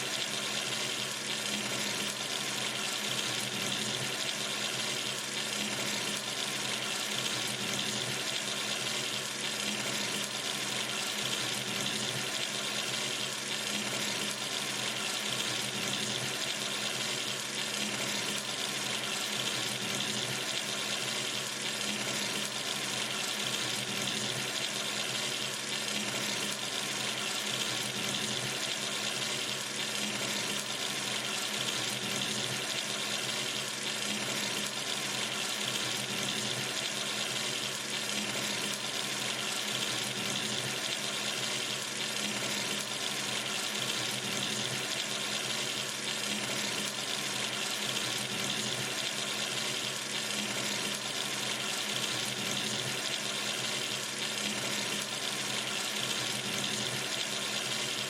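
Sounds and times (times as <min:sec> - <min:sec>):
water running from sink tap: 0:00.0 - 0:58.0.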